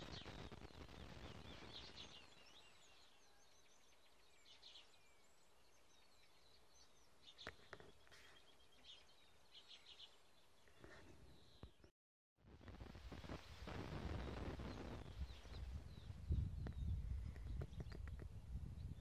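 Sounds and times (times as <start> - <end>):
songbirds chirping: 0.0 - 11.9, 12.6 - 19.0.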